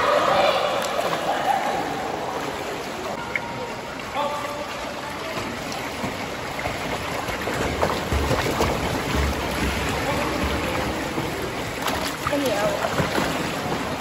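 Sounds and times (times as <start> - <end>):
water splashing from kicking: 0.7 - 14.0.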